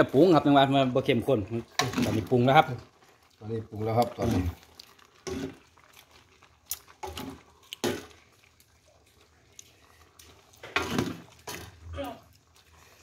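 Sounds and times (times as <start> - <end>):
utensil stirring in a metal pot: 0.0 - 13.0.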